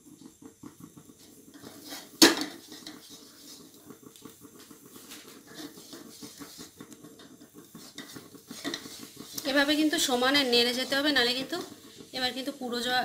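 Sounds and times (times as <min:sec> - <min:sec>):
wooden spatula scraping pan: 0:01.5 - 0:13.0.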